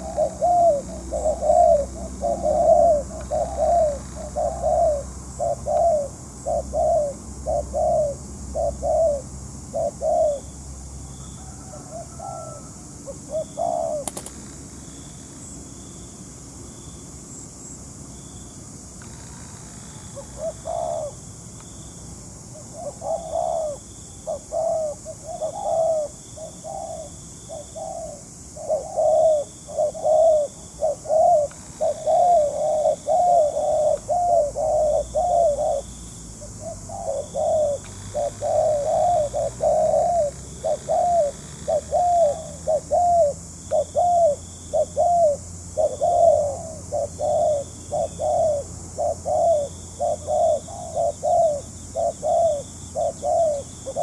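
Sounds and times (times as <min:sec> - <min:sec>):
doves cooing: 0:00.0 - 0:14.7, 0:19.9 - 0:21.3, 0:22.5 - 0:54.0.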